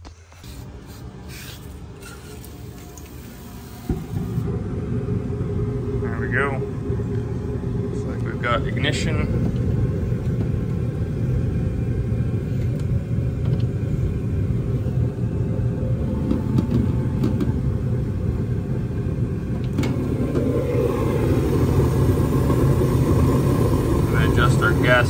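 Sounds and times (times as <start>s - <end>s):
gas furnace burner rumble: 0.0s - 25.0s.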